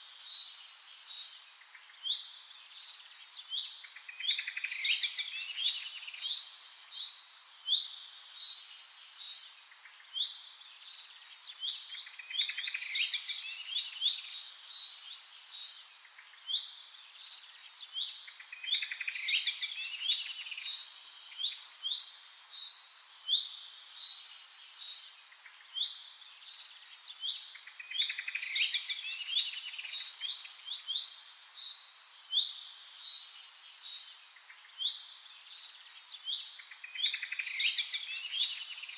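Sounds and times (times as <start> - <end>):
birds singing chirps and trills: 0.0 - 38.9.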